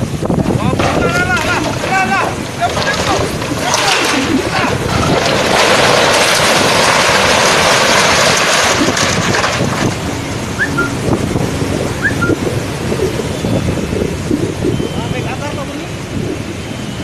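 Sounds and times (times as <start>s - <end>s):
heavy surf breaking: 0.0s - 17.0s
wind buffeting microphone: 0.0s - 17.0s.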